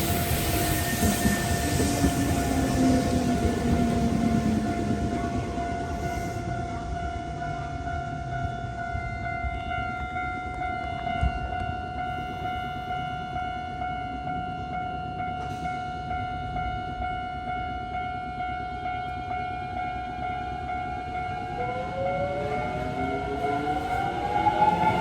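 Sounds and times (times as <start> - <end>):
level crossing warning bell: 0.0 - 25.0.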